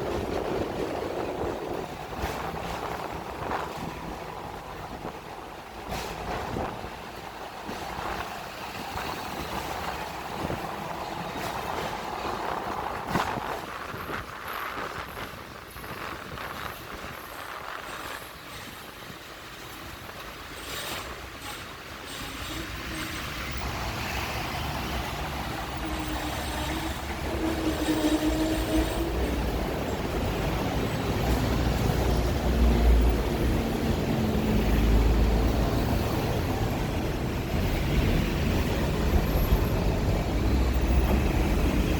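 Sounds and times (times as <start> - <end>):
tram rumbling on rails: 0.0 - 41.9.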